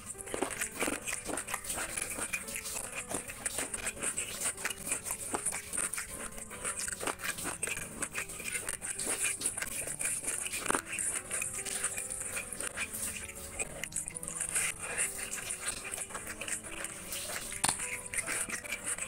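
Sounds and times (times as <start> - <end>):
fingers squishing rice: 0.0 - 19.0
wet chewing and lip-smacking: 0.0 - 19.0.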